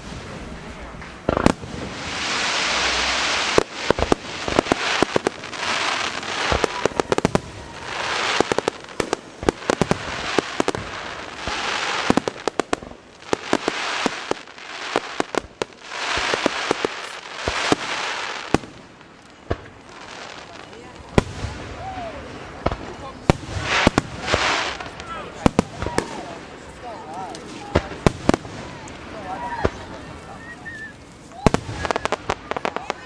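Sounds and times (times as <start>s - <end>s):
fireworks hissing and crackling: 0.0s - 33.0s
fireworks pops and bangs: 0.0s - 33.0s.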